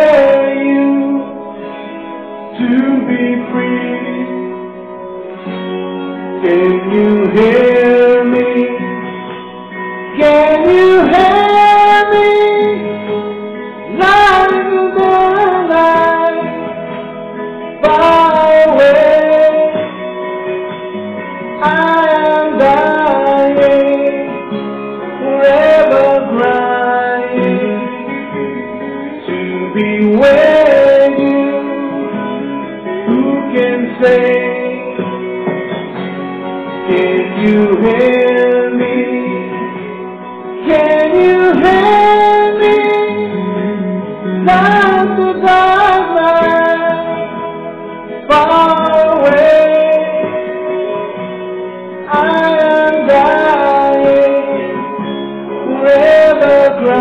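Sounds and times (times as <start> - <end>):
man singing into a microphone: 0.0 - 4.9, 6.2 - 20.1, 21.6 - 35.7, 36.7 - 51.2, 51.9 - 57.0
guitar backing music: 0.0 - 57.0.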